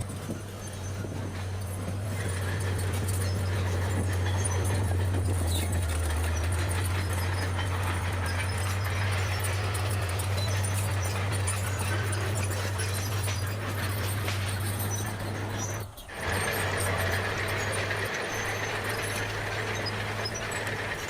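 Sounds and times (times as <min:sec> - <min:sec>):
bulldozer diesel engine running: 0:00.0 - 0:21.0
light clinking and rattling: 0:00.0 - 0:21.0.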